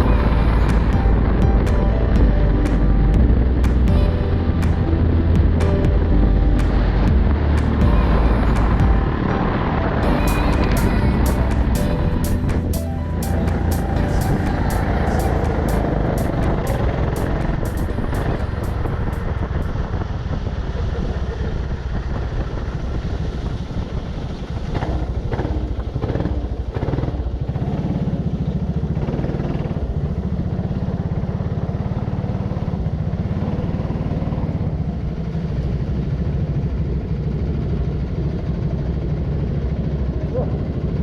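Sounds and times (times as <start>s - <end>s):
go-kart engine rumbling: 0.0s - 41.0s.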